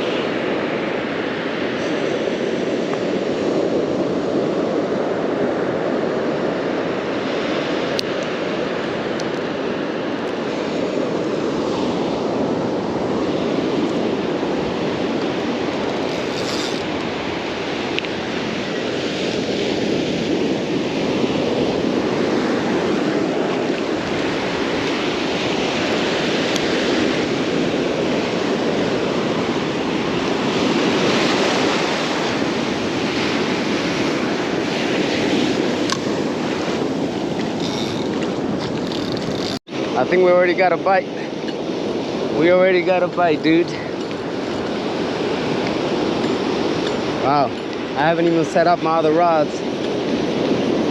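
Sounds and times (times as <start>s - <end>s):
ocean surf washing in: 0.0s - 50.9s
wind on microphone: 0.0s - 50.9s.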